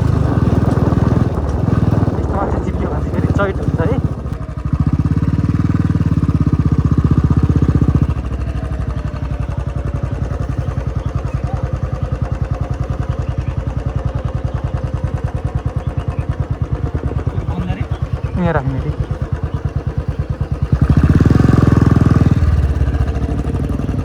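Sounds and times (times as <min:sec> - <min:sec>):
motor scooter engine: 0:00.0 - 0:24.0.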